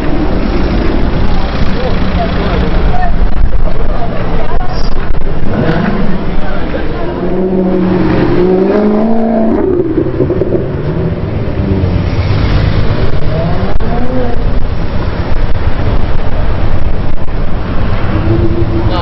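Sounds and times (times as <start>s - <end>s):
car engine revving: 0.0s - 19.0s
steady low rumble: 0.0s - 19.0s.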